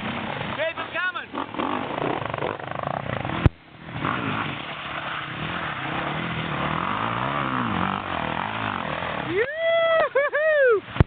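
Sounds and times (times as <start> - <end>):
trail bike engines revving: 0.0 - 11.0.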